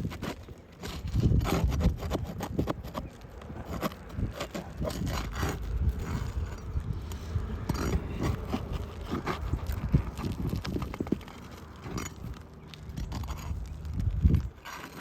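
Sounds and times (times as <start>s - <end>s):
roof shingles knocking and scraping: 0.0s - 15.0s.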